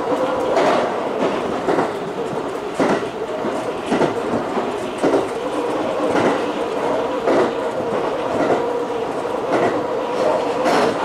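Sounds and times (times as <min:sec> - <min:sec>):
train running hum: 0:00.0 - 0:11.0
train wheels clacking on rail joints: 0:00.0 - 0:11.0.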